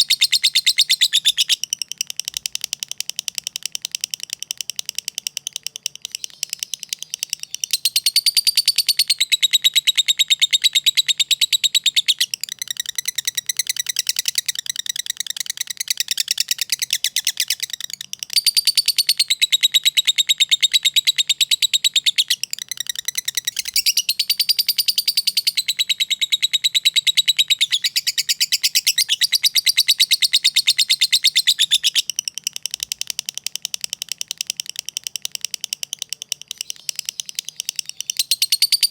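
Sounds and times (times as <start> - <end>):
lovebird chattering chirps: 0.0 - 38.9.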